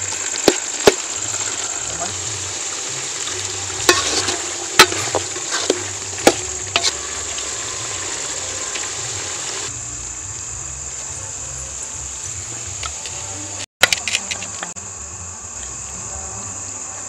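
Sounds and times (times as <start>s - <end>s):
curry sizzling and bubbling in a pan: 0.0s - 13.7s.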